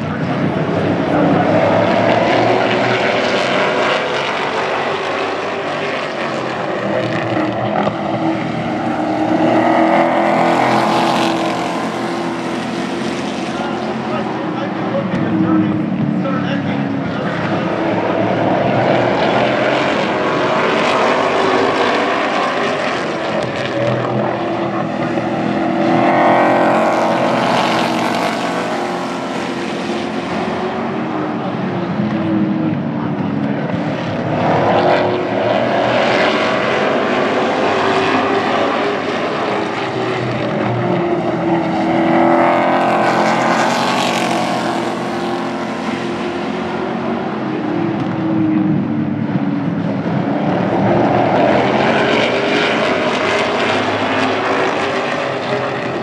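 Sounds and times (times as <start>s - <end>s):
race truck engines droning: 0.0s - 56.0s.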